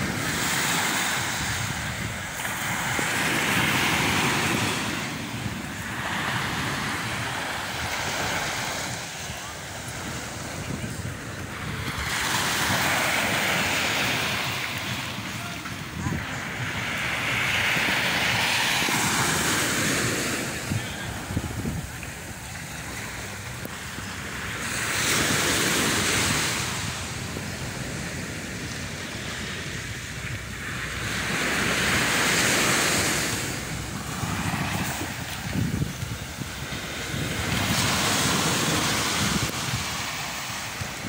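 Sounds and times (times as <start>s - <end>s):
waves breaking on sand: 0.0s - 41.0s
wind buffeting microphone: 0.0s - 41.0s.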